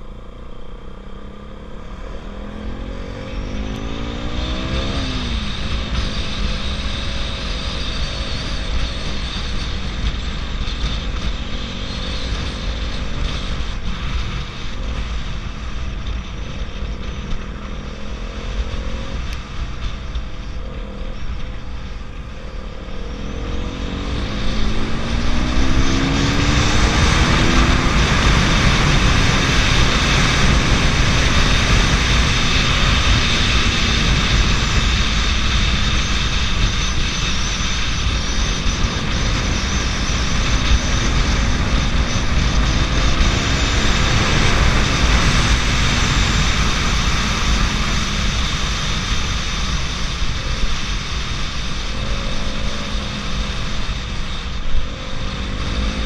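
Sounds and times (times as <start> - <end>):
broad rushing noise: 0.0 - 56.0
motorcycle engine accelerating: 0.0 - 56.0.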